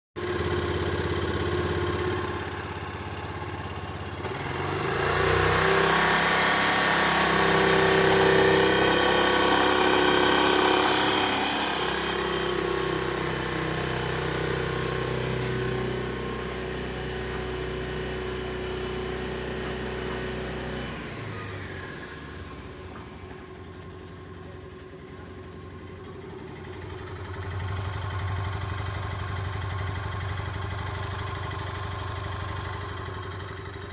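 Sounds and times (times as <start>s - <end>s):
scooter engine revving and idling: 0.2s - 33.9s.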